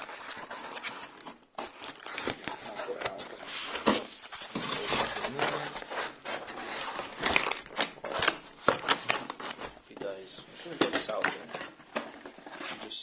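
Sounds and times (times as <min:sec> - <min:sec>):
cardboard box crinkling and scraping: 0:00.0 - 0:13.0.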